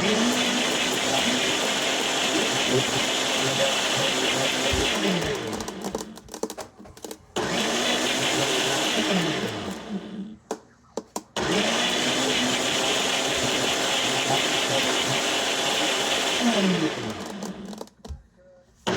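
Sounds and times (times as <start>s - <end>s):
blender crushing ice: 0.0s - 6.5s, 7.4s - 10.2s, 11.4s - 18.1s.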